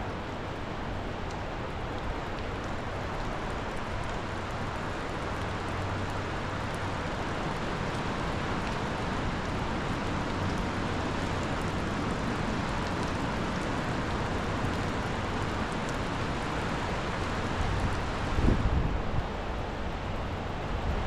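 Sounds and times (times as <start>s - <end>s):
river rushing in flood: 0.0s - 21.0s.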